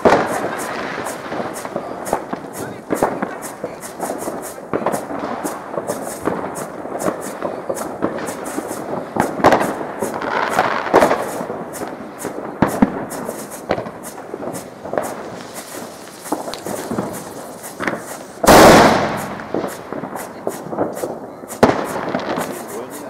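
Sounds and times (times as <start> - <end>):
fireworks cracking and banging: 0.0 - 23.0.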